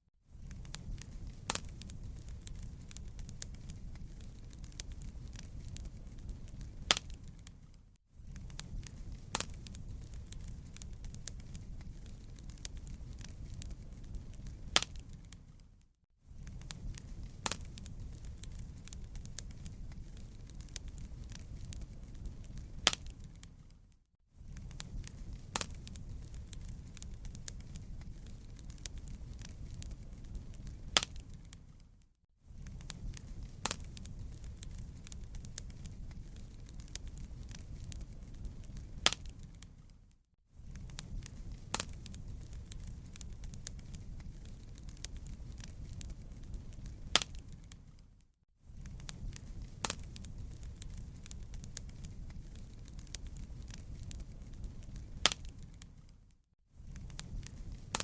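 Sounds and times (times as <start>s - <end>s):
low rumble of fire: 0.2s - 58.0s
fire pops and snaps: 0.3s - 58.0s.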